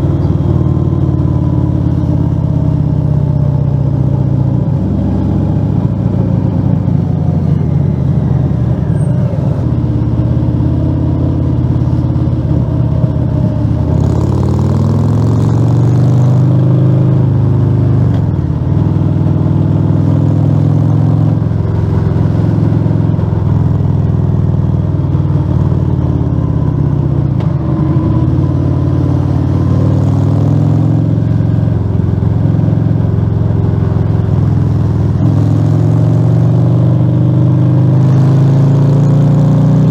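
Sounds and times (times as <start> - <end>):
loud motorcycle engine on the road: 0.0 - 39.9.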